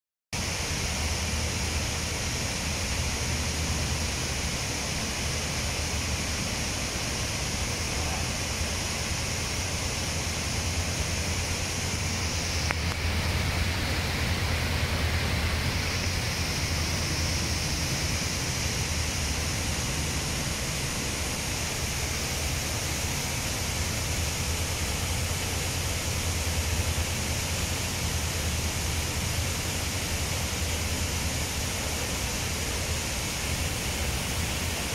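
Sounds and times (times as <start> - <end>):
running water rushing: 0.4 - 34.9.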